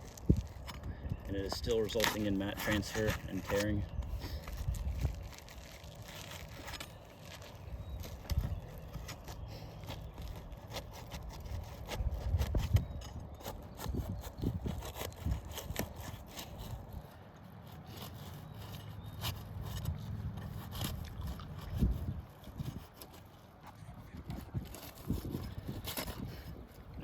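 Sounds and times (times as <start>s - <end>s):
roof shingle scraping and crackling: 0.0s - 27.0s.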